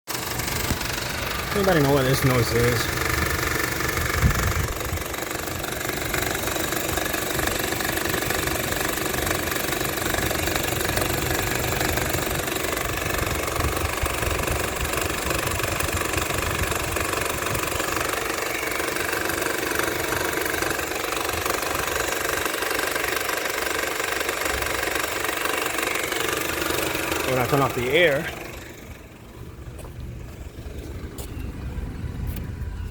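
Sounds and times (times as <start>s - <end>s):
car engine knocking vibration: 0.1s - 32.9s.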